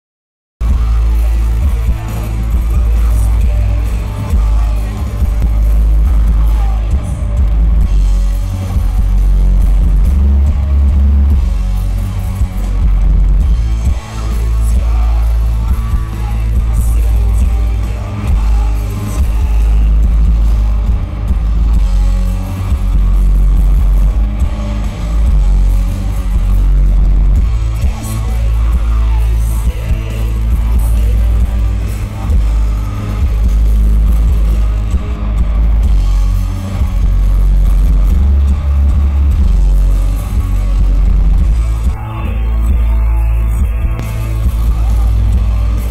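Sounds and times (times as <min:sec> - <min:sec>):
heavy metal band playing live: 0:00.6 - 0:45.9.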